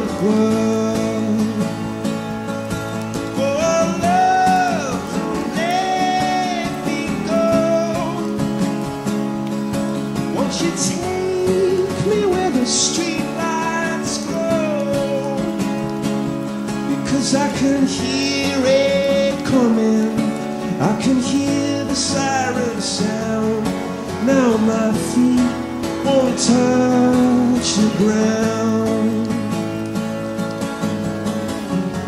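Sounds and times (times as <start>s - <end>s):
person singing: 0.0s - 2.0s, 3.3s - 8.6s, 10.3s - 16.0s, 16.9s - 29.7s
strummed acoustic guitar: 0.0s - 32.0s.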